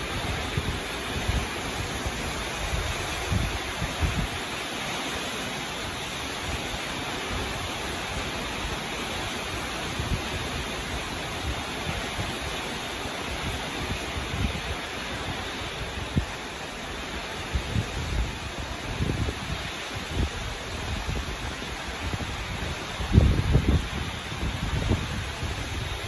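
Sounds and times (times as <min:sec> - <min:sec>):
heavy rain hissing: 0:00.0 - 0:26.0
wind rumbling on microphone: 0:00.0 - 0:26.0.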